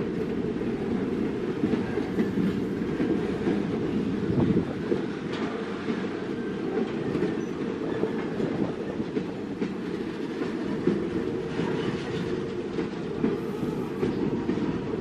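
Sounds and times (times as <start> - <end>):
train wagons rumbling past: 0.0 - 15.0
wheels clicking over rail joints: 0.0 - 15.0.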